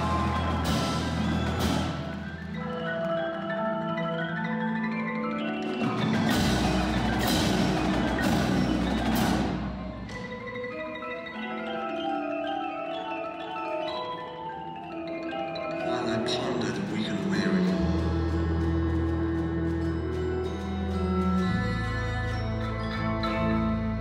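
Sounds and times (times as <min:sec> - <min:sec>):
marimbas playing: 0:00.0 - 0:24.0.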